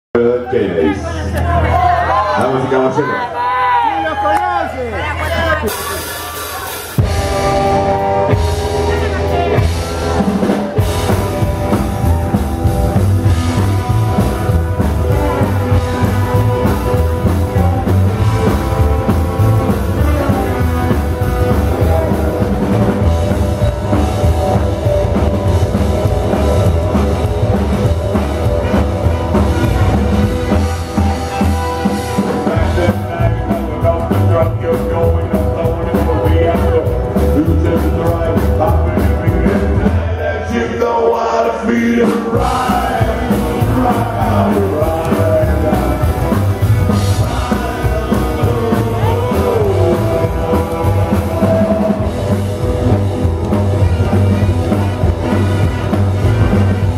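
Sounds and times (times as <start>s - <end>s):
live rock band playing: 4.6s - 40.9s, 41.7s - 56.9s.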